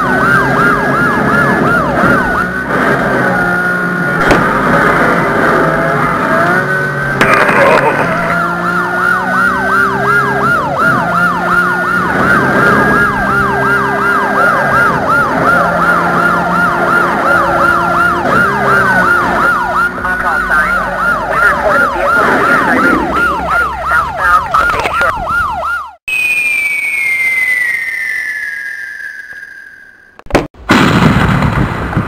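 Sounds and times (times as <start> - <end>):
police siren yelp: 0.0 - 30.0
high falling tone: 0.0 - 30.4.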